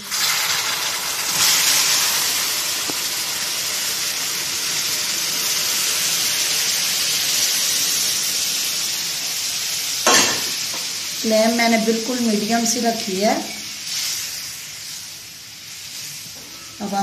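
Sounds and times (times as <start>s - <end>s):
hot fat hissing and sizzling: 0.0s - 17.0s.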